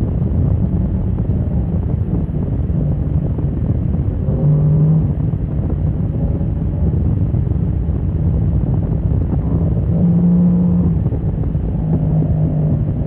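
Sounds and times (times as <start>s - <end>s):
motorcycle engine at speed: 0.0s - 13.0s
wind noise on microphone: 0.0s - 13.0s.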